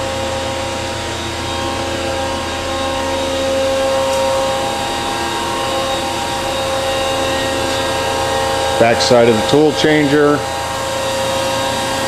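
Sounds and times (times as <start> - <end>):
machine hum of held tones: 0.0 - 12.0.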